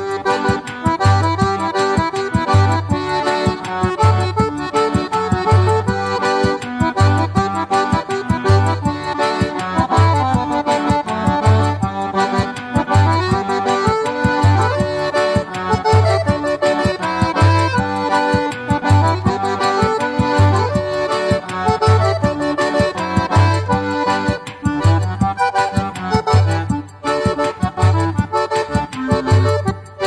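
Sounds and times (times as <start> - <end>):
accordion music with beat: 0.0 - 30.0.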